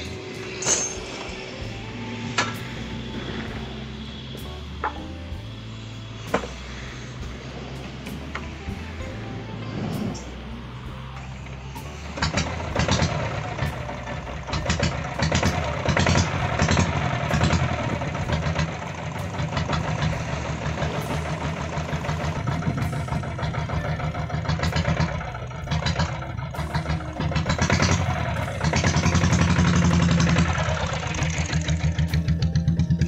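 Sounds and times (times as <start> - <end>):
motorcycle diesel engine clattering: 0.0 - 33.0.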